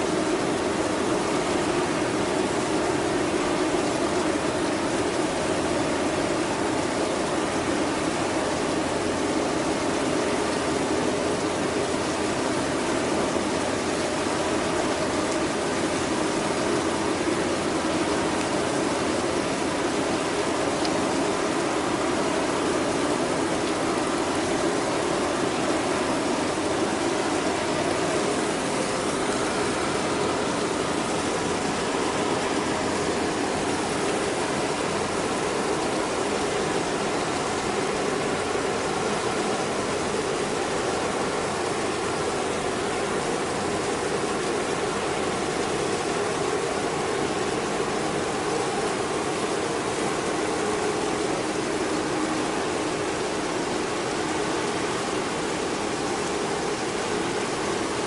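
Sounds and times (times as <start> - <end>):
rushing hiss of water and air: 0.0 - 58.0
ship engine drone: 0.0 - 58.0.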